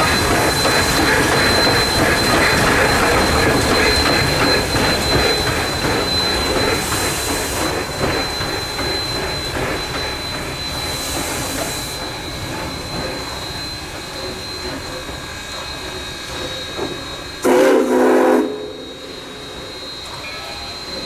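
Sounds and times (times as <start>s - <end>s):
train cars rumbling and clattering: 0.0s - 21.0s
train wheel squeal: 0.0s - 21.0s.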